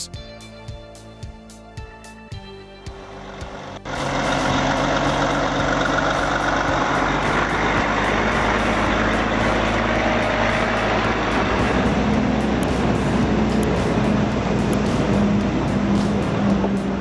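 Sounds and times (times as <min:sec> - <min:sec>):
road noise: 0:02.8 - 0:17.0
heavy truck engine under load: 0:03.2 - 0:17.0.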